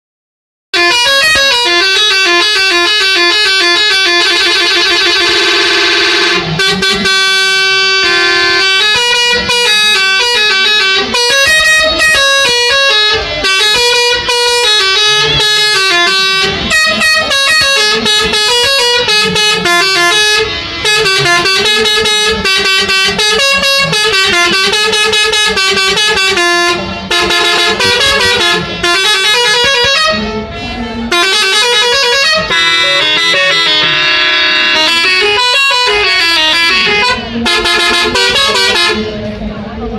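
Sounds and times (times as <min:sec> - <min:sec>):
musical bus air horns: 0:00.7 - 0:39.9.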